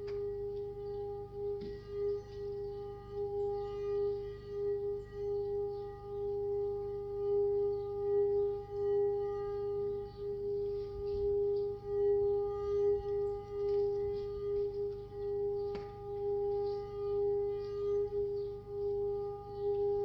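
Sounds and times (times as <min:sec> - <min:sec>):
singing bowl ringing tone: 0:00.0 - 0:20.0.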